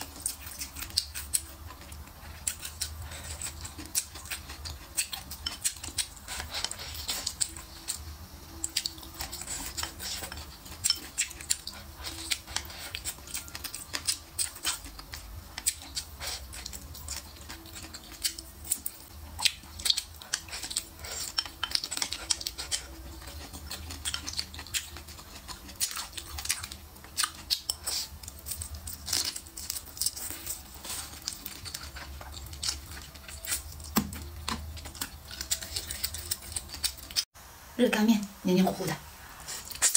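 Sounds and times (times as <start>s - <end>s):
wet chewing and slurping: 0.0s - 37.3s, 39.4s - 39.9s.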